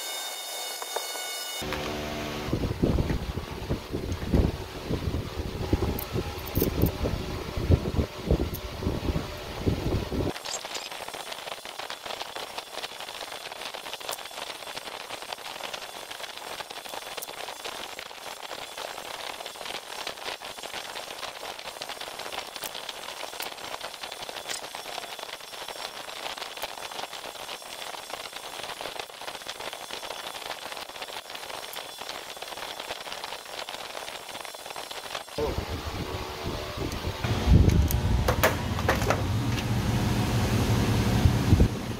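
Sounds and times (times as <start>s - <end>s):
welding arc crackling and hissing: 0.0s - 35.8s.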